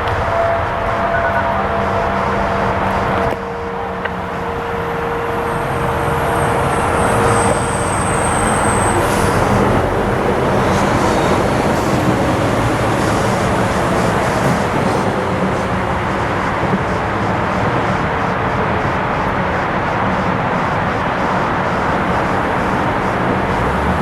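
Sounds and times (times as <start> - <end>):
distant warning siren: 0.0 - 24.0
highway traffic noise: 0.0 - 24.0.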